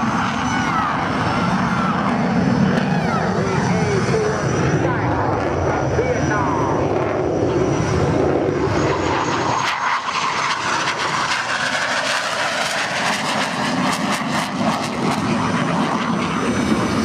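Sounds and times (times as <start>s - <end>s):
jet engine rumble and crackling hiss: 0.0s - 17.0s.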